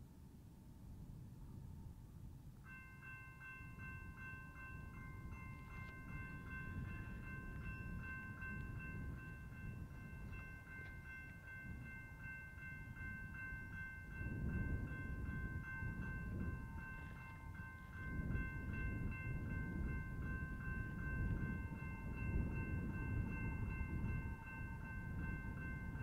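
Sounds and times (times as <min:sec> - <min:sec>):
railroad crossing bell ringing: 0:02.6 - 0:26.0.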